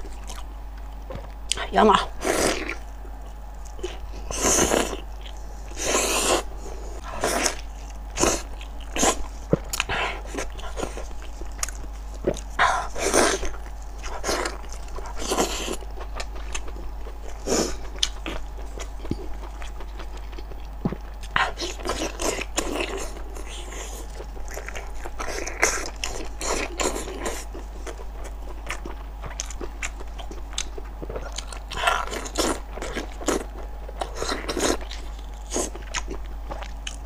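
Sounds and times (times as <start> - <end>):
wet slurping and chewing: 2.2 - 37.0.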